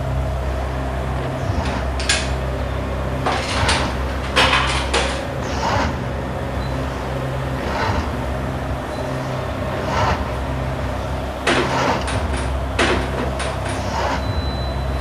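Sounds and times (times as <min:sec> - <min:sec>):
vending machine humming: 0:00.0 - 0:15.0.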